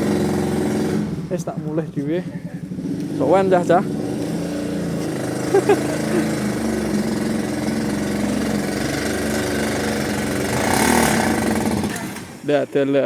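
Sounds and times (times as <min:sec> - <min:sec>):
small petrol engine running: 0:00.0 - 0:12.5.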